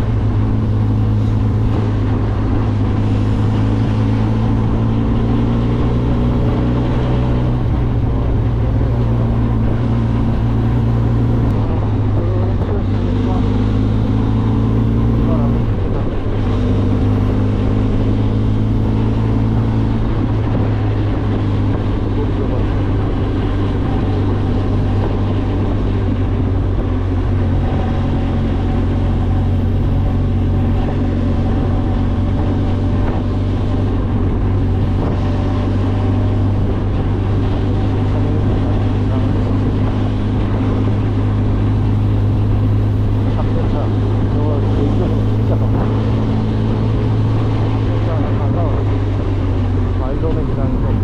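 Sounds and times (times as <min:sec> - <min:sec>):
motorcycle engine running: 0:00.0 - 0:51.0
road noise: 0:00.0 - 0:51.0
wind noise: 0:00.0 - 0:51.0.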